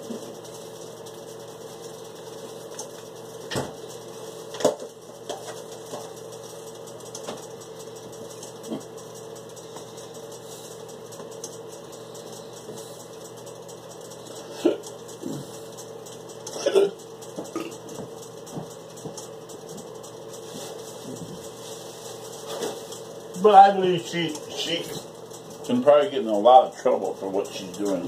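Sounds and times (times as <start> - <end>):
appliance motor hum: 0.0 - 28.0.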